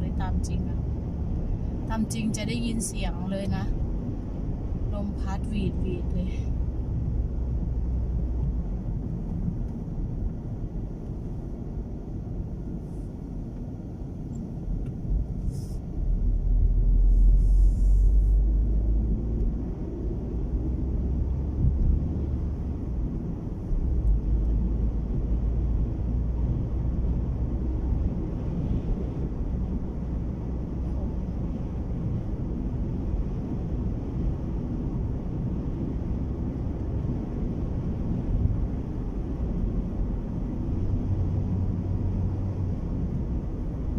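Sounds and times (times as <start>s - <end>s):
car road and wind noise: 0.0s - 43.9s.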